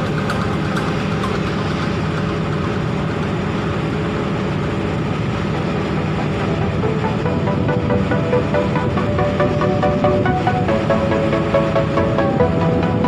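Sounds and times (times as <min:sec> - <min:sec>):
constant noisy hiss: 0:00.0 - 0:13.0
ship engine rumbling: 0:00.0 - 0:13.0.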